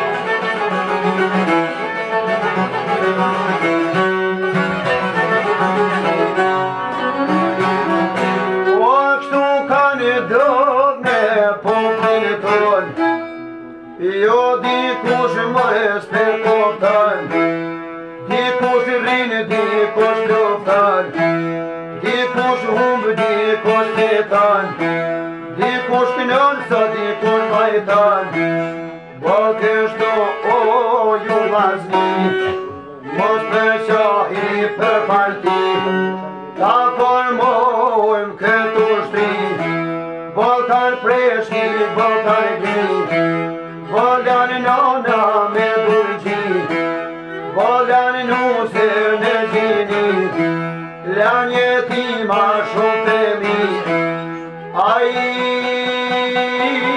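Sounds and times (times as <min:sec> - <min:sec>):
plucked long-necked lute: 0:00.0 - 0:56.9
violin: 0:00.0 - 0:56.9
man singing: 0:07.6 - 0:56.9.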